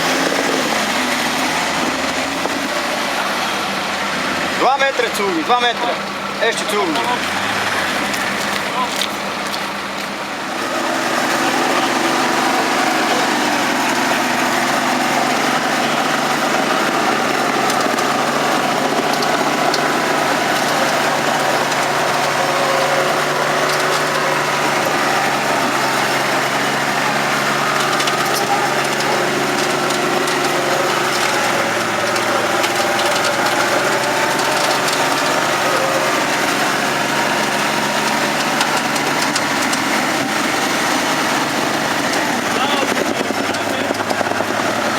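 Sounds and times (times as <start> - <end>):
engine running under load: 0.0 - 44.9
crackling noise: 5.1 - 44.9.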